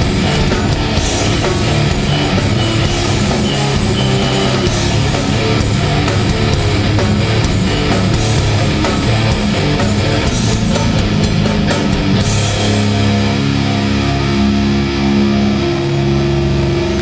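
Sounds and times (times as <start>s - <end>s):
distorted electric guitars: 0.0s - 17.0s
drum kit: 0.0s - 17.0s.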